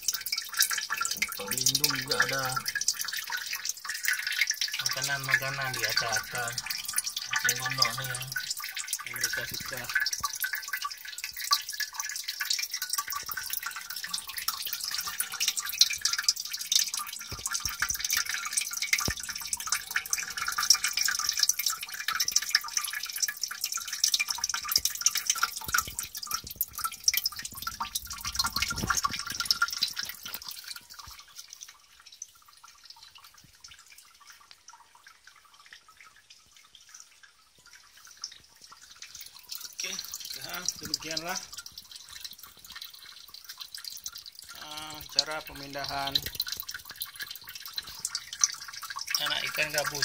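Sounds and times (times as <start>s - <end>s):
aquarium water bubbling and dripping: 0.0s - 50.0s.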